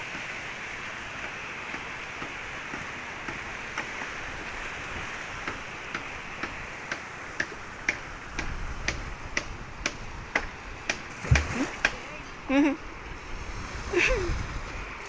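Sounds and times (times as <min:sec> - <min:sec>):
sea surf hissing: 0:00.0 - 0:15.0.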